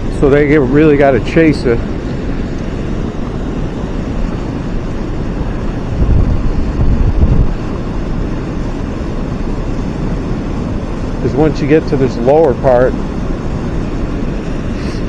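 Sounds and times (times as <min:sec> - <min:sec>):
water rushing below a dam: 0:00.0 - 0:15.0
wind buffeting the microphone: 0:00.0 - 0:15.0.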